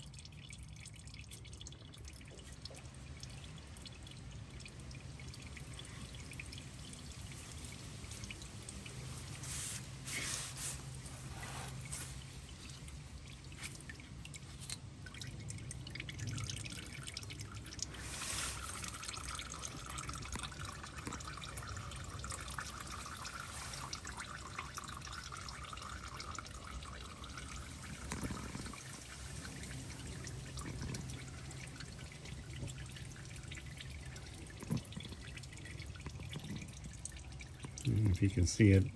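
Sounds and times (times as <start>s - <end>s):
oil dripping into a drain pan: 0.0s - 38.9s.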